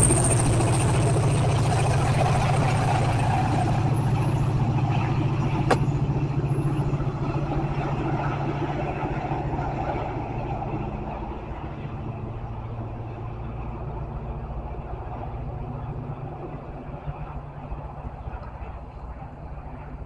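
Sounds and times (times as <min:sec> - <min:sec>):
diesel locomotive engine droning: 0:00.0 - 0:20.0.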